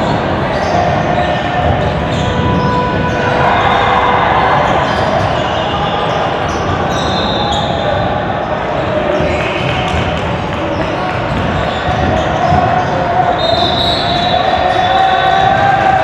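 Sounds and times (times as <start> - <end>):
sneakers squeaking: 0.0 - 15.8
voices in hall: 0.0 - 16.0.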